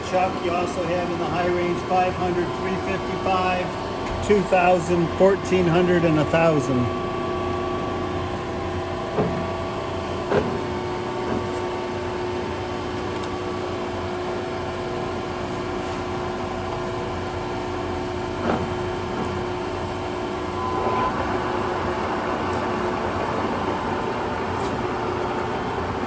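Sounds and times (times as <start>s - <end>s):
lathe drive humming: 0.0s - 26.0s.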